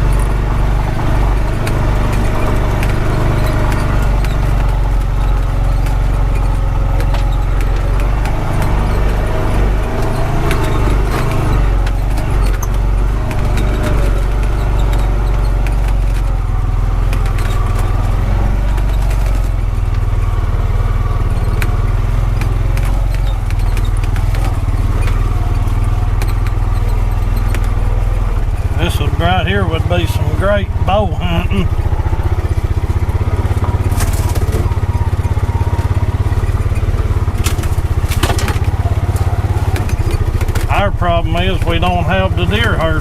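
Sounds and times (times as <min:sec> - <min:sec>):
clicks and rattles: 0:00.0 - 0:43.0
vehicle engine running: 0:00.0 - 0:43.0.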